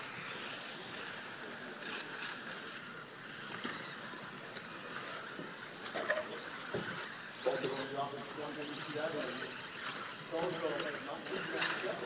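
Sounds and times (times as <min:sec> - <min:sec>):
electric motors and tyres hissing: 0:00.0 - 0:12.0.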